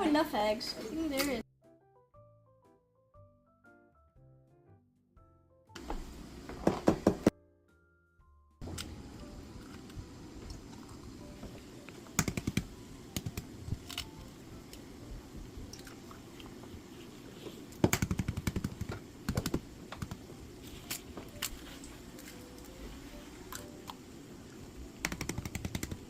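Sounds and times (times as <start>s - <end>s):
low kitchen background: 0.0s - 1.5s, 5.2s - 26.0s.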